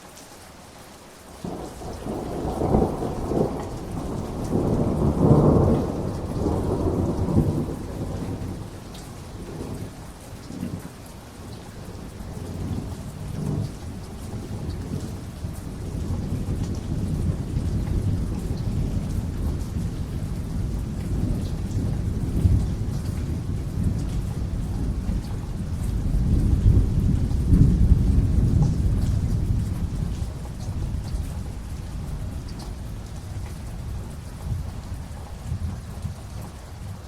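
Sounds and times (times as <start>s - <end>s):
rain falling: 0.0s - 37.0s
rolling thunder: 1.4s - 10.0s, 12.0s - 36.5s.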